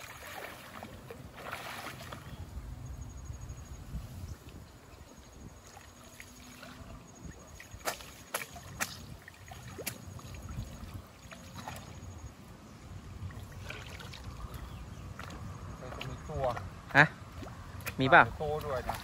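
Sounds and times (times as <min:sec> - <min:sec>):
water sloshing: 0:00.0 - 0:02.6, 0:04.4 - 0:19.0.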